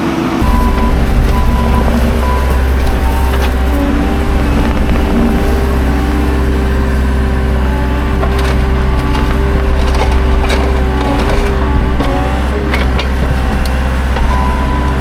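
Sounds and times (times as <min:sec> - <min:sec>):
constant whine: 0:00.0 - 0:15.0
skid steer engine running: 0:00.0 - 0:15.0
logs knocking and cracking: 0:00.4 - 0:15.0.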